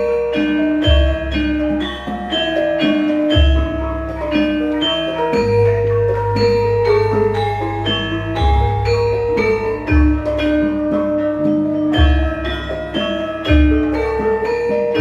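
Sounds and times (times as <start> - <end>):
metallophones striking ringing notes: 0.0 - 15.0.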